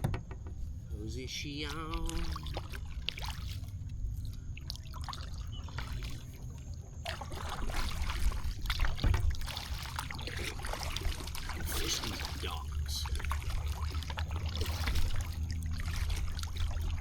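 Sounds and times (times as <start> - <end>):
paddle strokes splashing: 0.6 - 17.0
water dripping off paddle: 1.3 - 17.0.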